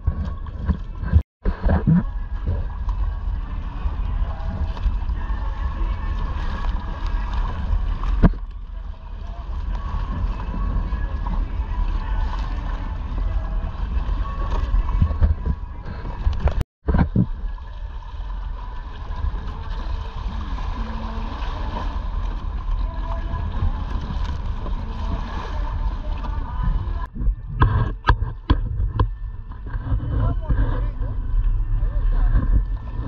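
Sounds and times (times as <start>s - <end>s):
water splashing along hull: 0.0s - 33.0s
wind buffeting microphone: 0.0s - 33.0s.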